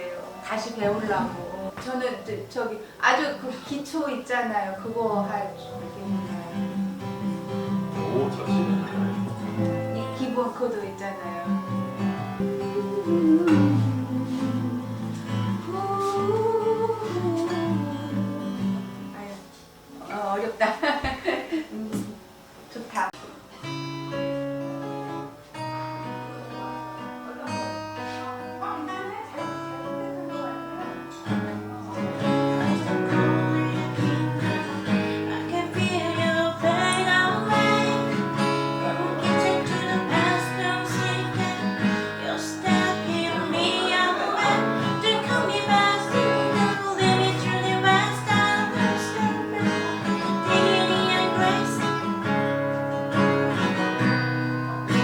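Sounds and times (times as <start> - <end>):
acoustic guitar playing: 0.0 - 55.0.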